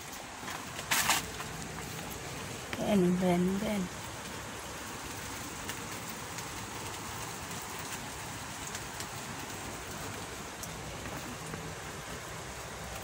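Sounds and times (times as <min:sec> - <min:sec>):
close raindrop ticks: 0:00.0 - 0:13.0
steady rain falling: 0:00.0 - 0:13.0.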